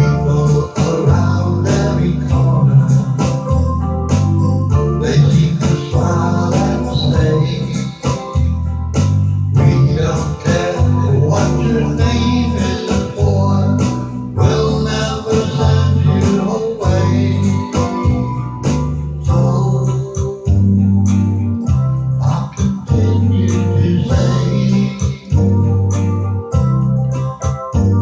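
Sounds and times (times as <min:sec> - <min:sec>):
music with heavy bass beat: 0:00.0 - 0:28.0.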